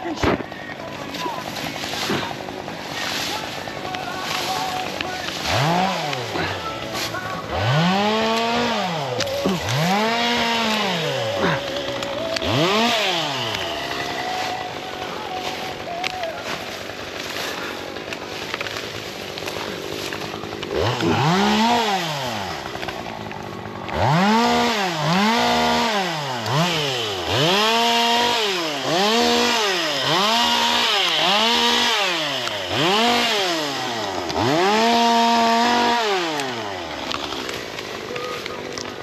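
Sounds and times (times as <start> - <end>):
chainsaw engine revving: 0.0 - 39.0.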